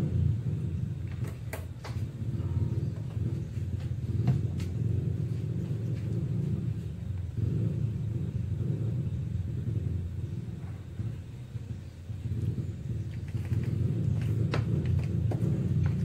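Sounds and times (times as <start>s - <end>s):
gas burner flame rumbling: 0.0s - 16.0s.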